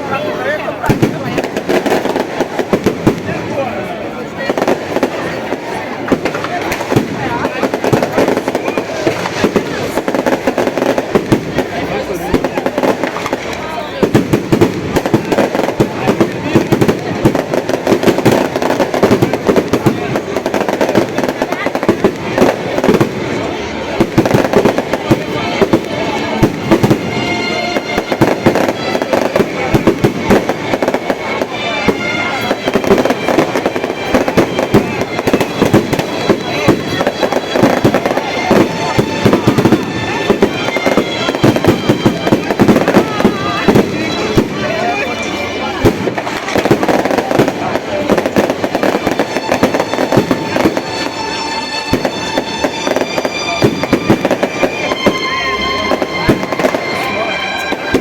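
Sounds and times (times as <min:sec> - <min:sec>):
music: 0:00.0 - 0:03.7, 0:04.5 - 0:58.0
fireworks banging and crackling: 0:00.0 - 0:58.0
voices: 0:00.0 - 0:58.0.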